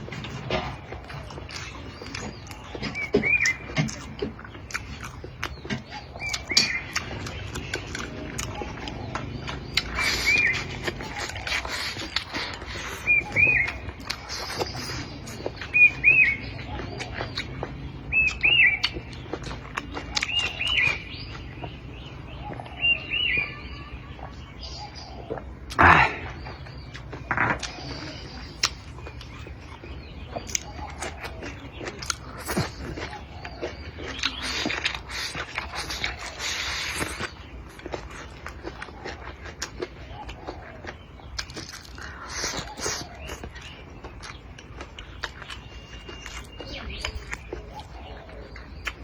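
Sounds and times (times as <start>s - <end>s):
slurping: 0.0s - 22.1s, 22.7s - 49.0s
bird chirping: 0.0s - 49.0s
chewing with clicks and smacks: 0.0s - 49.0s.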